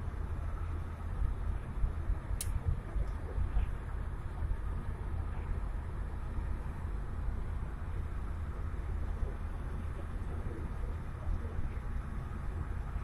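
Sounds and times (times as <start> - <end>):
car cabin tyre and engine rumble: 0.0 - 13.0.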